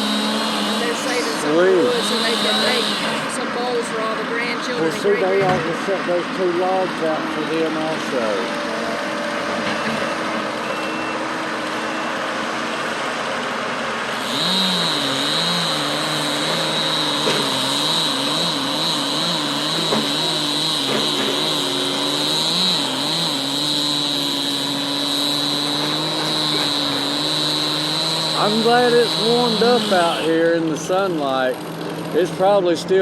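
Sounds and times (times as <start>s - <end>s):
high-pitched whine: 0.0s - 12.8s, 14.4s - 31.0s
heavy machinery engine running: 0.0s - 33.0s.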